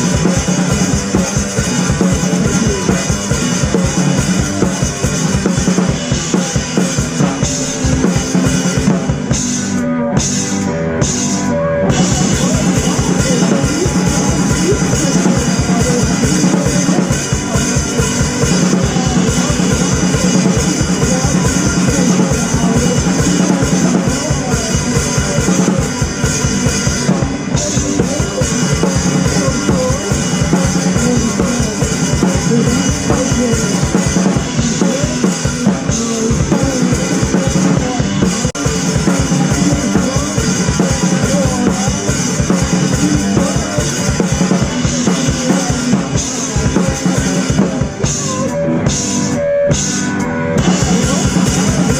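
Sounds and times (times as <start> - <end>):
loud rock music with drums: 0.0 - 51.9.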